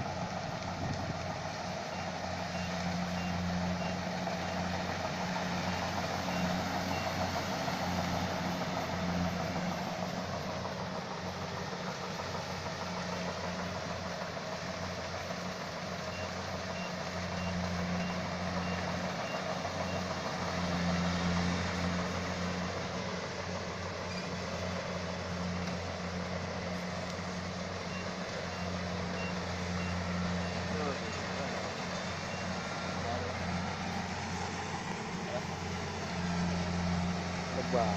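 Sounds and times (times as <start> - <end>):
diesel engine humming: 0.0 - 37.9.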